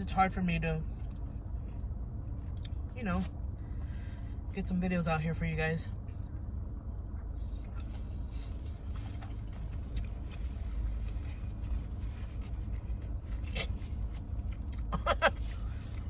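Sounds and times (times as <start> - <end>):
low hum inside a car: 0.0 - 16.0.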